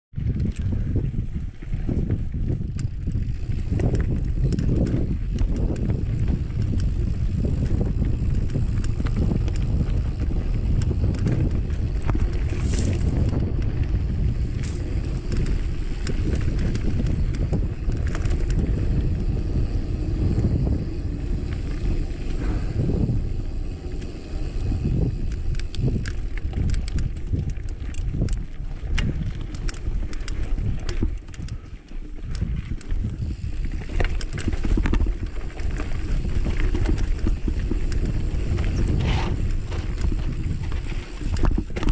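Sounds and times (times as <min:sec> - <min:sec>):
wind buffeting microphone: 0:00.1 - 0:41.9
bike clicks and rattles: 0:00.2 - 0:41.9.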